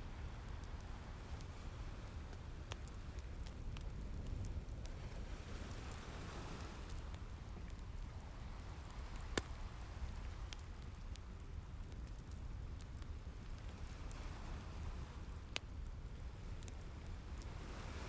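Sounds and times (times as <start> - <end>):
wood fire crackling and popping: 0.2 - 18.0.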